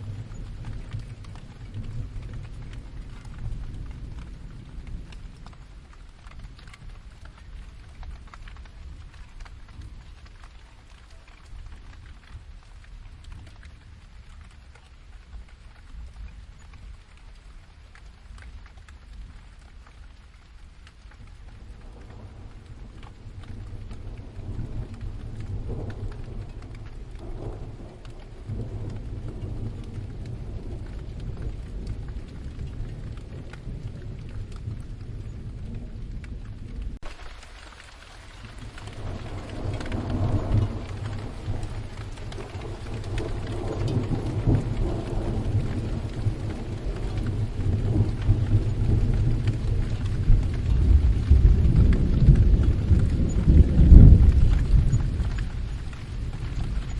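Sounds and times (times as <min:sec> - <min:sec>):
thunder rumbling: 0:00.0 - 0:18.4, 0:19.0 - 0:56.9
steady rain: 0:00.0 - 0:56.9.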